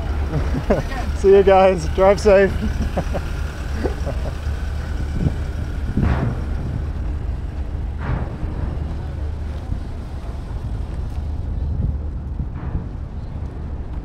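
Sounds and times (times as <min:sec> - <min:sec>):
low engine rumble of vehicles: 0:00.0 - 0:14.0.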